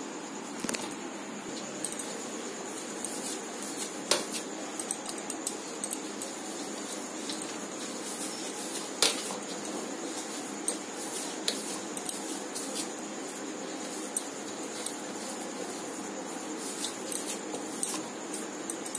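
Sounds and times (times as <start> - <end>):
hands kneading on metal plate: 1.6 - 18.9.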